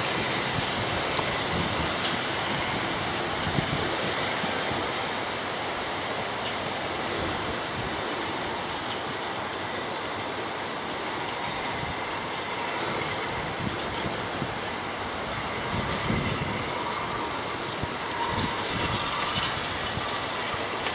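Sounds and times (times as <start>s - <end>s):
steady high hiss: 0.0s - 20.9s
wheels clicking on rails: 0.0s - 20.9s.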